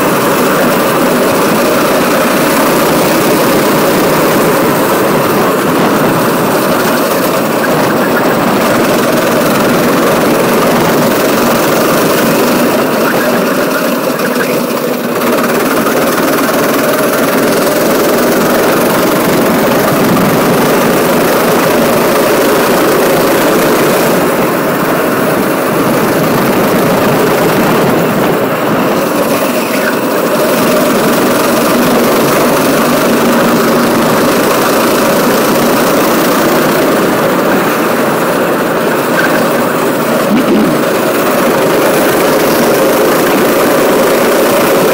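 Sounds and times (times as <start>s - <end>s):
kart engine racing: 0.0s - 44.9s.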